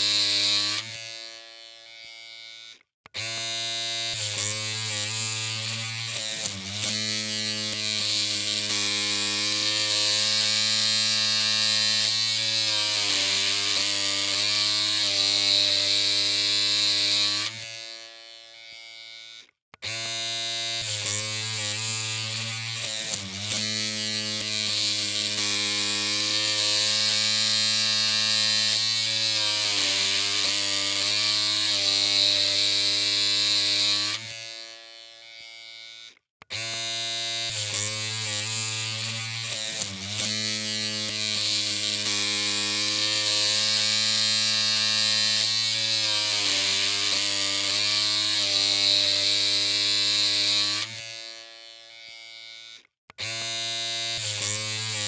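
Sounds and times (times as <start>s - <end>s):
electric hair clippers humming: 0.0s - 55.0s.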